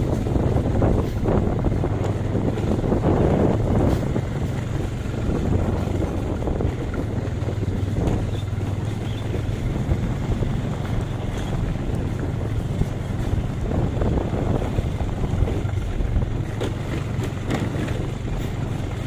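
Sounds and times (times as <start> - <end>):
vehicle rumble: 0.0 - 19.0
wind buffeting microphone: 0.0 - 19.0.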